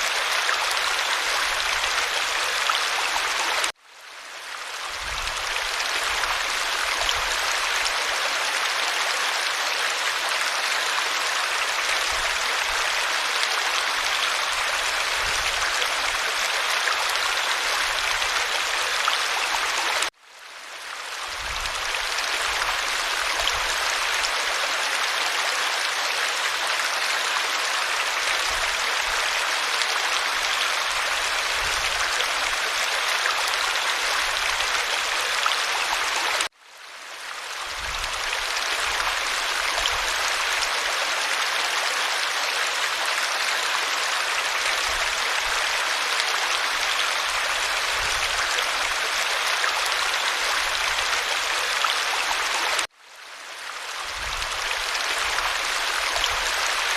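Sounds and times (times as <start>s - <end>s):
creek water rushing: 0.0s - 56.9s.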